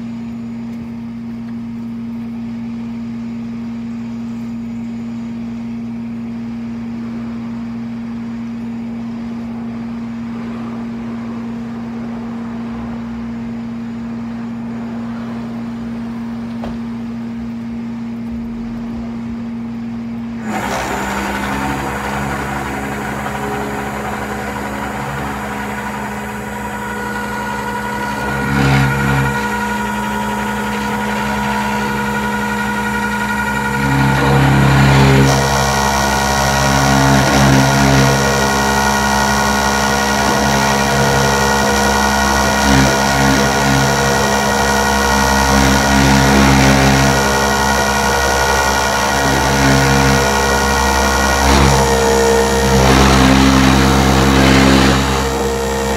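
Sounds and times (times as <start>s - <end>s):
steady whine: 0.0s - 55.9s
truck engine running: 0.0s - 55.9s.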